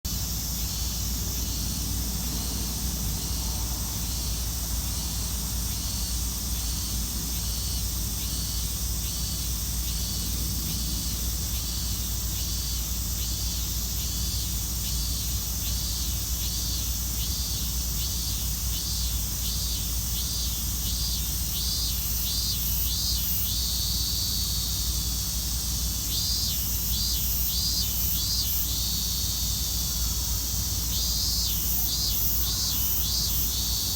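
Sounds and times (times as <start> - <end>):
cicada singing: 0.0 - 33.9
steady high hiss: 0.1 - 33.9.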